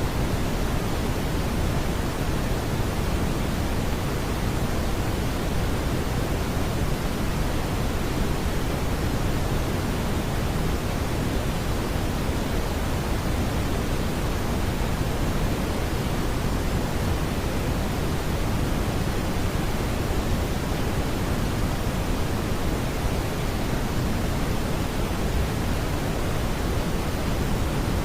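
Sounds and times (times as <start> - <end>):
brown noise rumbling hiss: 0.0 - 28.0.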